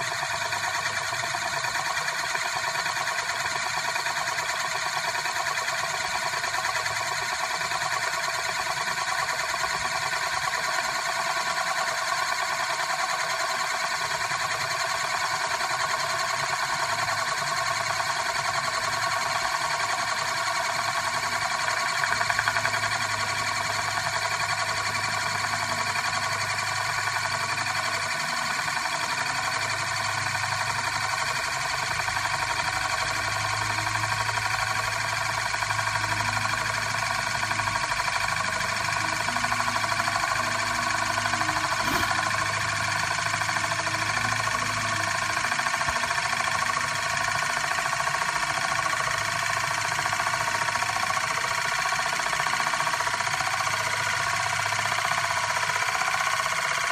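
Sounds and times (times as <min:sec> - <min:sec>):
spinning metal disk whirring: 0:00.0 - 0:56.9.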